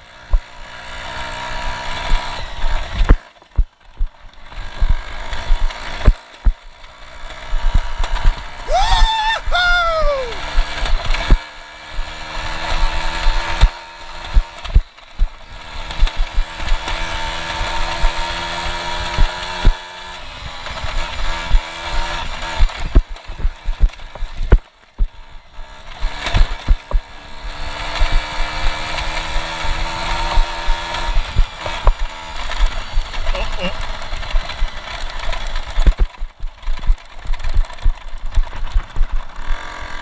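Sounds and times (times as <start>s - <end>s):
bike rattling over rough ground: 0.0s - 9.2s, 10.4s - 40.0s
two-stroke moped engine revving: 0.0s - 40.0s.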